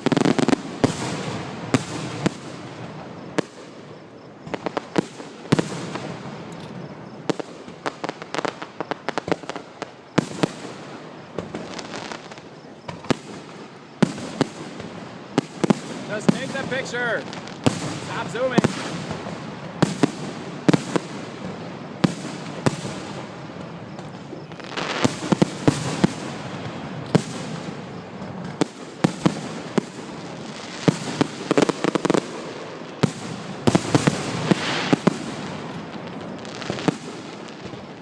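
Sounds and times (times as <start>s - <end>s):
firework crackling: 0.0s - 38.0s
firework shells bursting: 4.4s - 37.9s.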